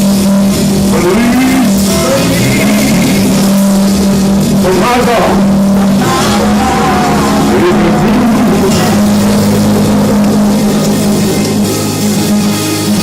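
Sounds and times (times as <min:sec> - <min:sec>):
held chords: 0:00.0 - 0:13.0
steady bass line: 0:00.0 - 0:13.0.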